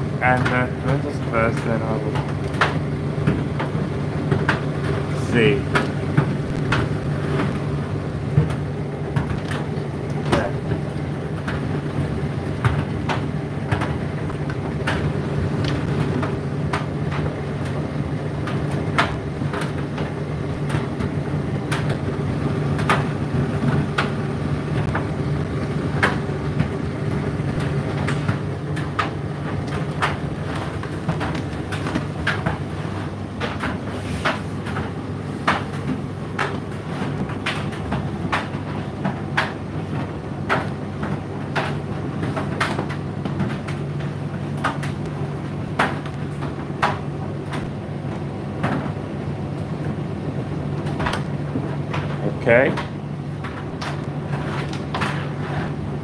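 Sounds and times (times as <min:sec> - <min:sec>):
tumble dryer motor hum: 0:00.0 - 0:56.0.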